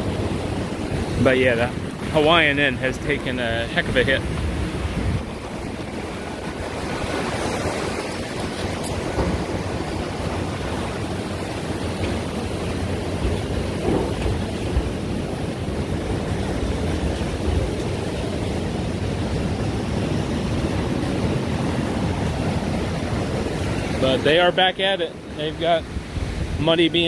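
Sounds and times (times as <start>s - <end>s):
wind buffeting microphone: 0.0s - 24.3s, 25.8s - 26.8s
ocean surf: 0.0s - 27.0s.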